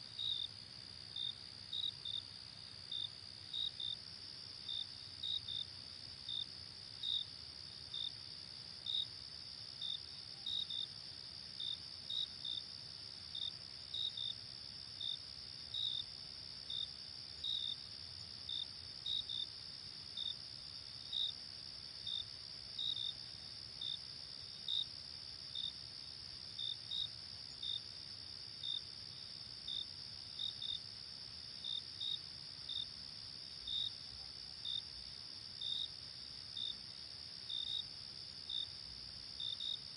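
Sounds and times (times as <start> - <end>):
cricket chirps: 0.0 - 39.9.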